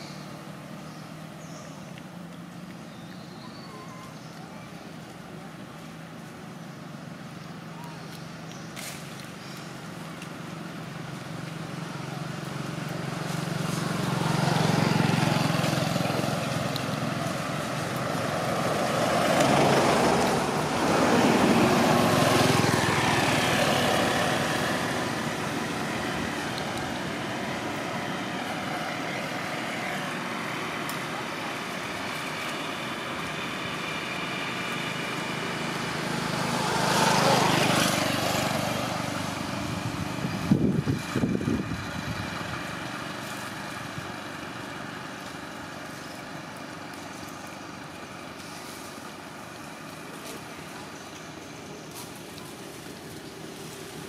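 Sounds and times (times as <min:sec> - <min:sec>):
motorbike passing: 0:00.0 - 0:54.0
road vehicles passing: 0:00.0 - 0:54.0.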